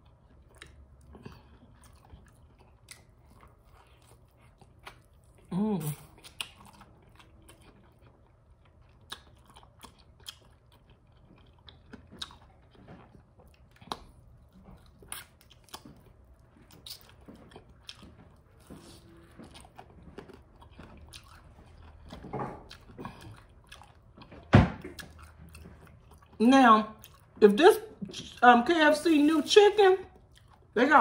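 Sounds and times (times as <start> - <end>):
person chewing crispy chicken: 0.0 - 26.4, 27.0 - 27.4, 30.1 - 30.8.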